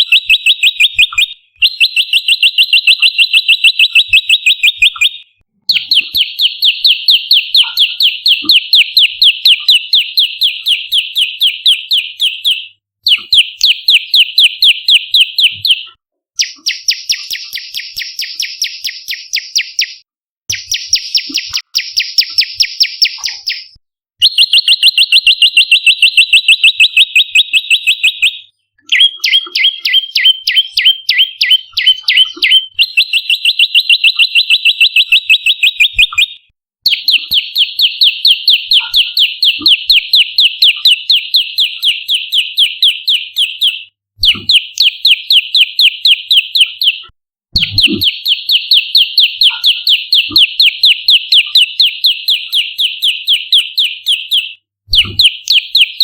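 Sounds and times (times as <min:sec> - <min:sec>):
bird trill: 0:00.0 - 0:56.0.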